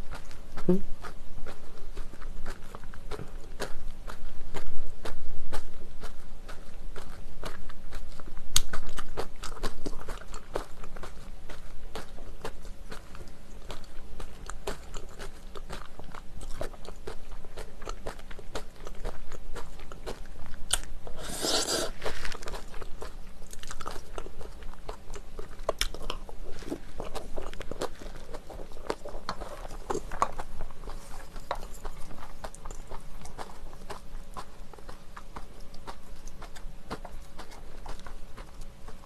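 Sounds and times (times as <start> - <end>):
close chewing and biting: 0.0 - 39.0.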